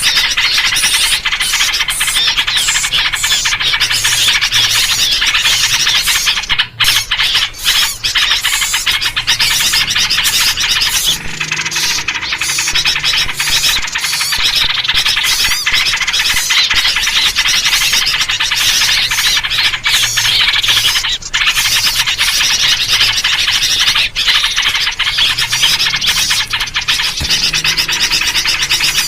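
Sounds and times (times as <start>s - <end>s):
birds chattering and squealing: 0.0s - 29.0s.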